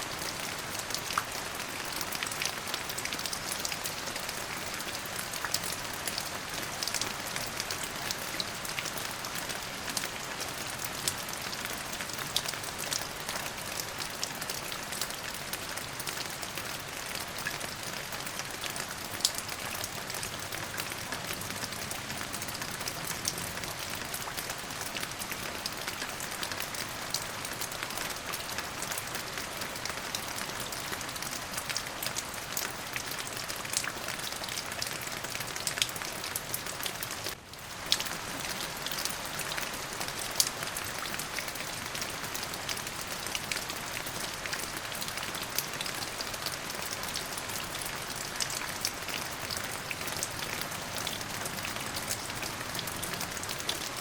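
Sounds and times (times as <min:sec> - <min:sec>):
steady rain hiss: 0:00.0 - 0:54.0
raindrops ticking: 0:04.6 - 0:54.0.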